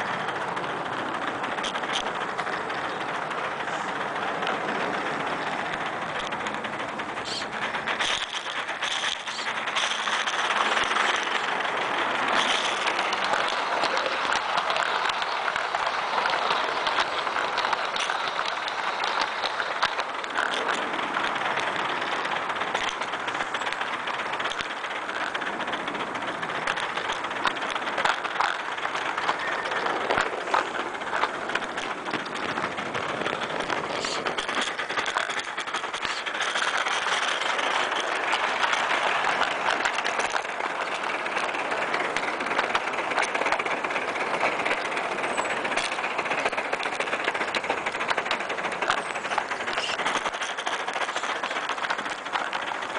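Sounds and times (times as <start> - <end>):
steam locomotive hissing: 0.0 - 52.9
wheels clicking and rattling: 0.0 - 52.9.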